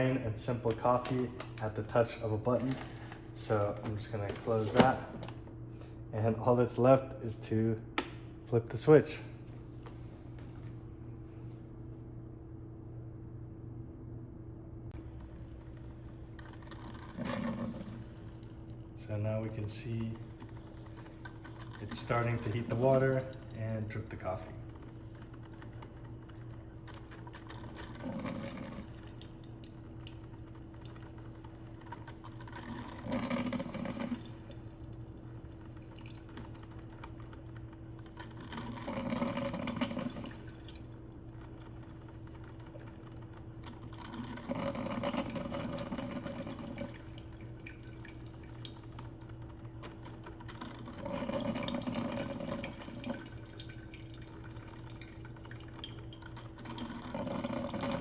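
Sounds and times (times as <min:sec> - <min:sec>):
coffee maker gurgling and sputtering: 0:00.0 - 0:11.4, 0:14.9 - 0:58.0.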